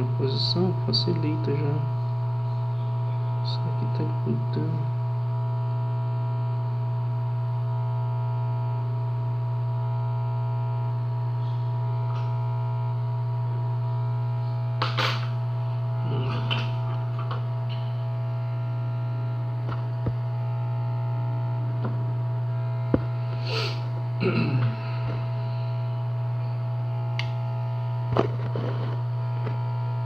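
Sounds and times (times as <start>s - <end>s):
hot-air rework station humming: 0.0s - 30.0s.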